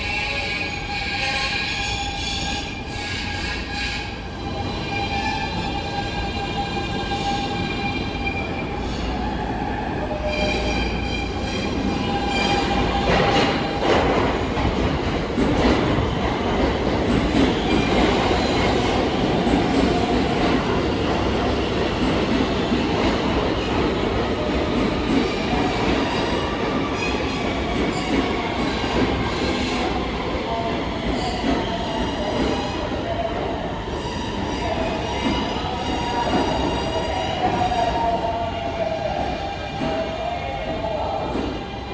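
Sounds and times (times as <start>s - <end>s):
subway wheel squeal: 0.0s - 41.9s
train wheels rumbling on rail: 0.0s - 41.9s.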